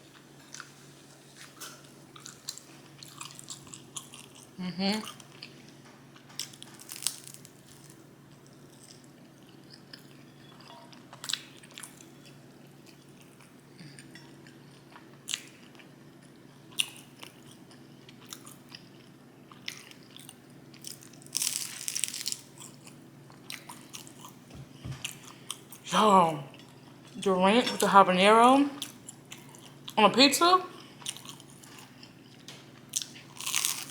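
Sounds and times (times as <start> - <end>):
person chewing crunchy food: 0.1 - 25.8, 28.8 - 30.0, 30.7 - 33.9.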